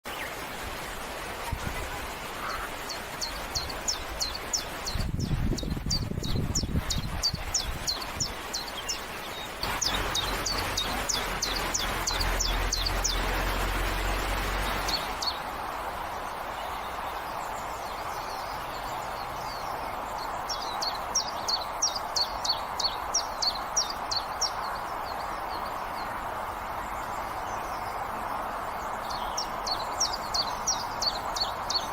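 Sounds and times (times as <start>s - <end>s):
steady background hiss: 0.1s - 31.9s.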